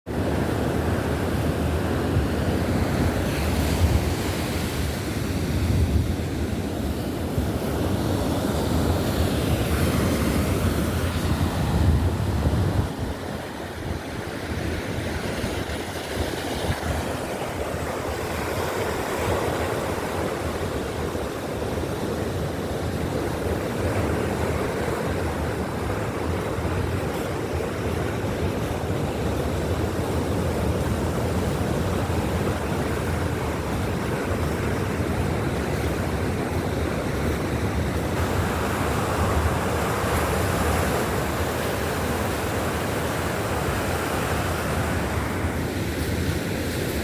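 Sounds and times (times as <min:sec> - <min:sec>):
surf washing onto beach: 0:00.1 - 0:47.0
wind buffeting microphone: 0:00.1 - 0:47.0.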